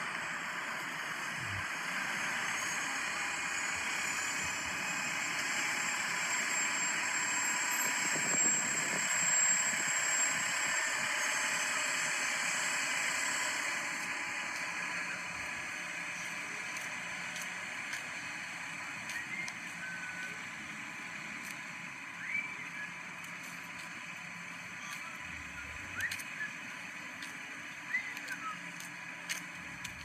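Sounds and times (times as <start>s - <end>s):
bus engine and road noise: 0.0s - 30.0s.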